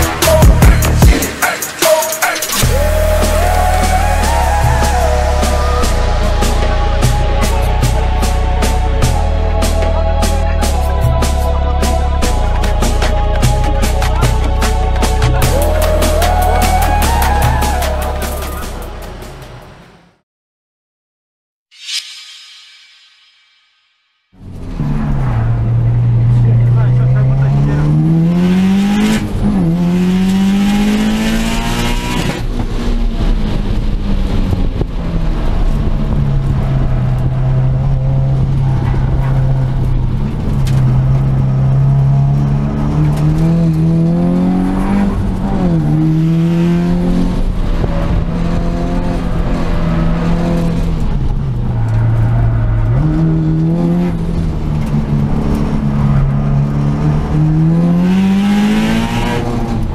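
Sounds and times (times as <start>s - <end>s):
road and tyre noise: 0.0s - 20.2s, 24.4s - 59.9s
car engine accelerating: 2.6s - 20.2s, 24.4s - 59.9s.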